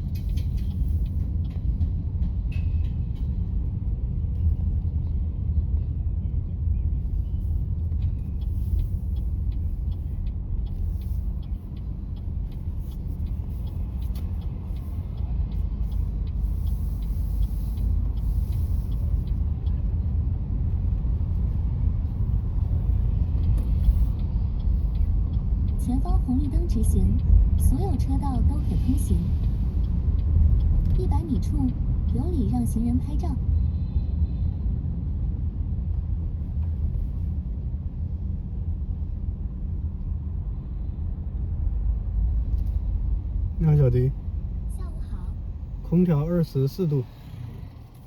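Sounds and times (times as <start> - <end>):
road and tyre noise in car: 0.0 - 48.0.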